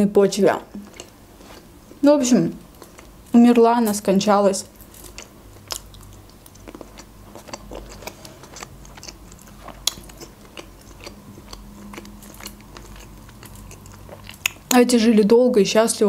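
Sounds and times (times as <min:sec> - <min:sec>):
faint steady hum: 0:00.0 - 0:16.0
chewing grapes: 0:00.5 - 0:02.0, 0:02.6 - 0:15.0.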